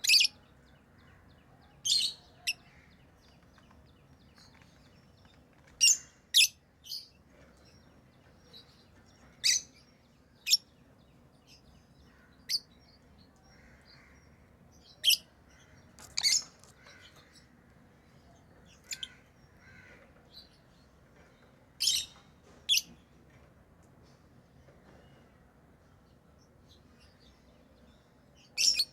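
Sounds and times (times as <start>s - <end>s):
lovebirds chirping: 0.0s - 22.9s, 26.0s - 28.9s.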